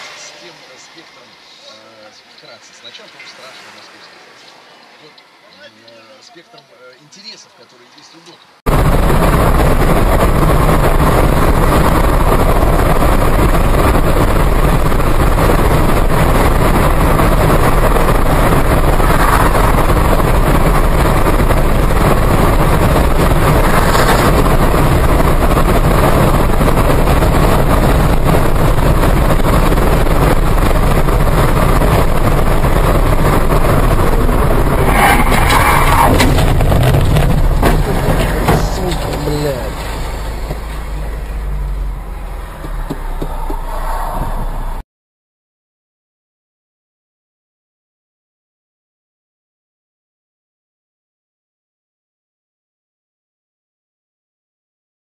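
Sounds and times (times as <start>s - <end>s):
car road and wind noise: 0.0s - 44.8s.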